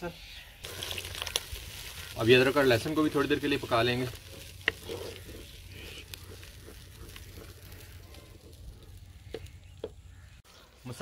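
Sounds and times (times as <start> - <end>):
food sizzling in oil: 0.6 - 9.6
stirring ticks: 0.6 - 10.0.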